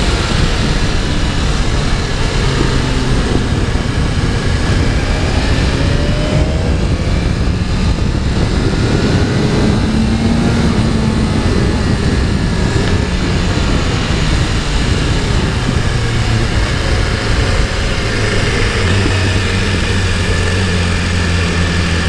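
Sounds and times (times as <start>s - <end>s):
motorcycle engine running: 0.0s - 22.0s
wind rushing on microphone: 0.0s - 22.0s.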